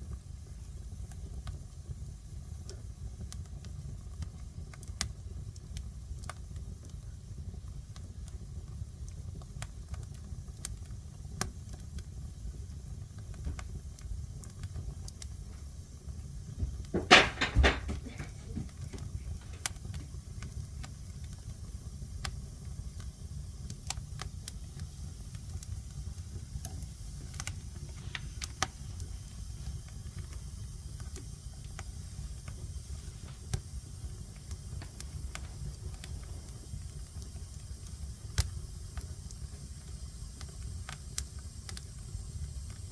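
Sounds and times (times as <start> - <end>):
fire crackling and popping: 0.0 - 42.9
fire rumbling in fireplace: 0.0 - 42.9.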